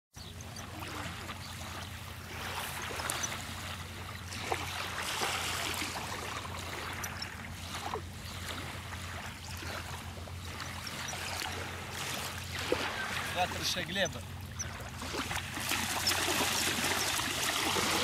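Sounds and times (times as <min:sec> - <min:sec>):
water lapping and sloshing: 0:00.2 - 0:18.0.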